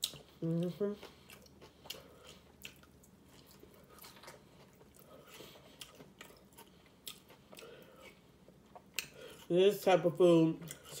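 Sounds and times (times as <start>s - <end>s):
chewing crisp taco: 0.0s - 11.0s.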